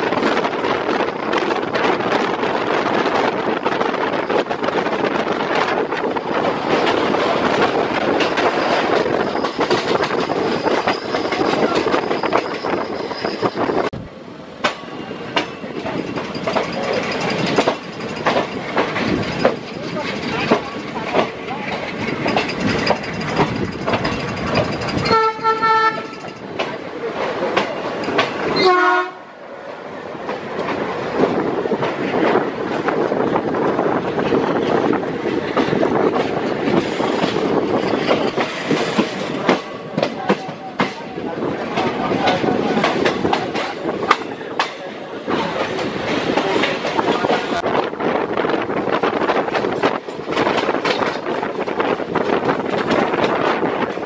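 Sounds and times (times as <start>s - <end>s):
train wheels clicking over rail joints: 0.0s - 13.9s, 14.5s - 28.7s, 30.2s - 54.0s
train rumble: 0.0s - 54.0s.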